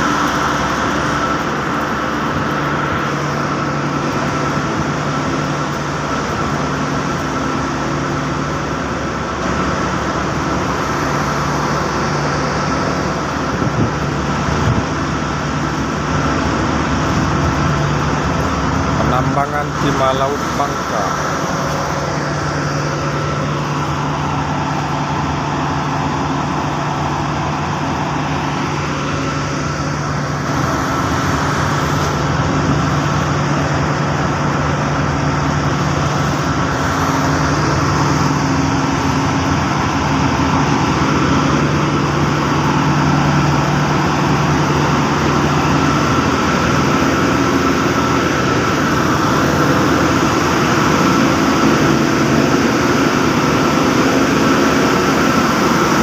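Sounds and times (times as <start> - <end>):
dredge engine drone: 0.0 - 56.0.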